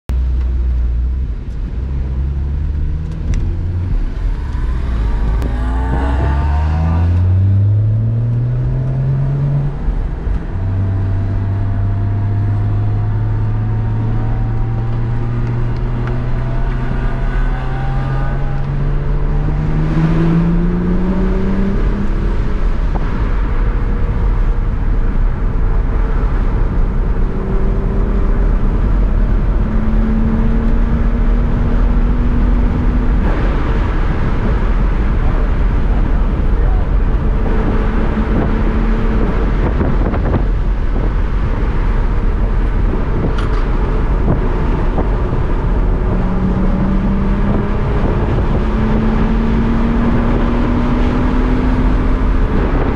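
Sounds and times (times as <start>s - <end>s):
road and wind noise: 0.1s - 52.9s
car engine revving through gears: 1.4s - 52.9s.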